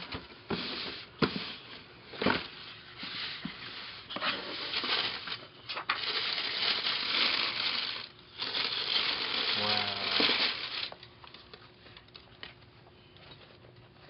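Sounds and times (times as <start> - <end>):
packaging rustling and crinkling: 0.0 - 12.1.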